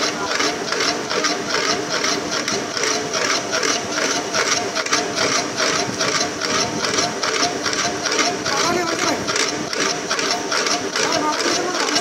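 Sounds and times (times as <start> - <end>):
machine with rhythmic clatter: 0.0 - 12.0.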